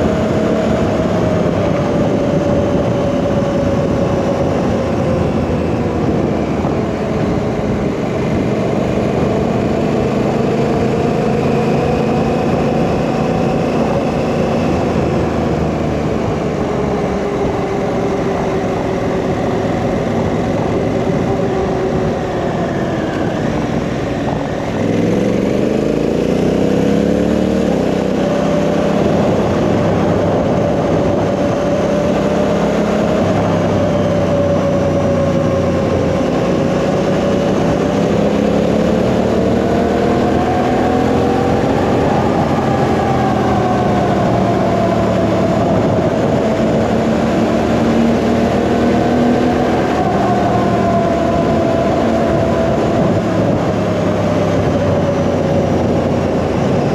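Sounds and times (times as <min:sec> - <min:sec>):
motorcycle engine accelerating: 0:00.0 - 0:56.9
rushing riding noise: 0:00.0 - 0:56.9.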